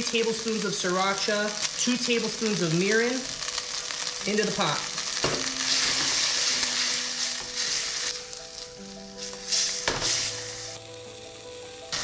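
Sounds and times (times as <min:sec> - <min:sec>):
noodles sizzling in a pan: 0:00.0 - 0:12.0.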